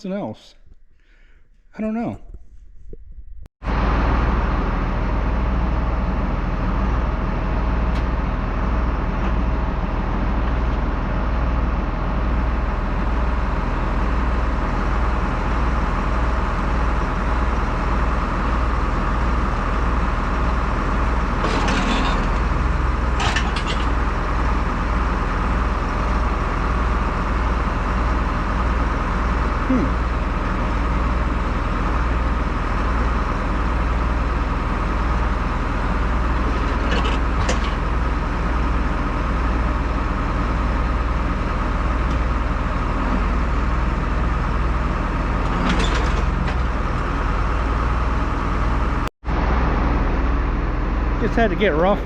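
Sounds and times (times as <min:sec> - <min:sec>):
large engine running: 0:03.4 - 0:52.0.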